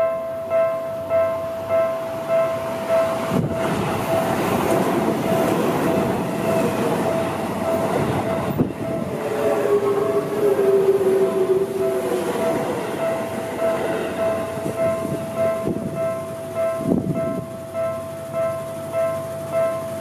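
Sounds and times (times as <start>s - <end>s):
level crossing bell ringing: 0.0s - 20.0s
low whine: 0.0s - 20.0s
train wheels rumbling on rail: 0.0s - 20.0s.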